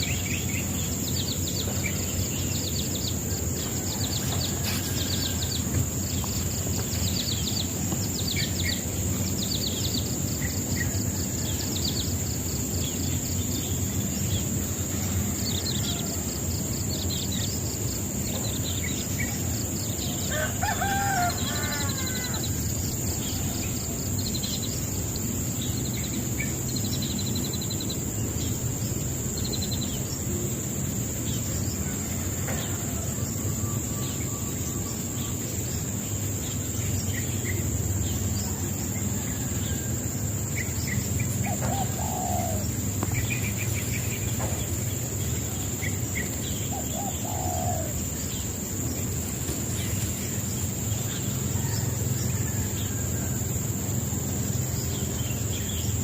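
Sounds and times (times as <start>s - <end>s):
small birds chirping: 0.0s - 33.0s, 33.9s - 56.0s.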